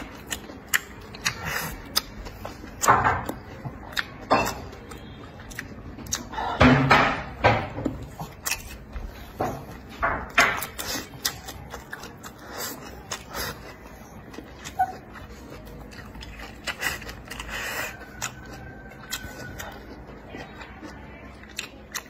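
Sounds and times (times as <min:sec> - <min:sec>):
man chewing and wet mouth noises: 0:00.0 - 0:22.0.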